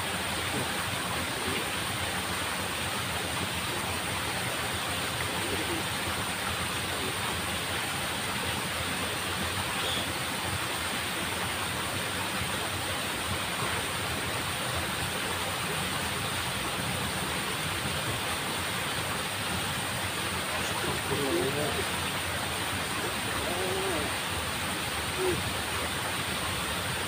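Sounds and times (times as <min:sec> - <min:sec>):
water rushing in a ditch: 0:00.0 - 0:27.0.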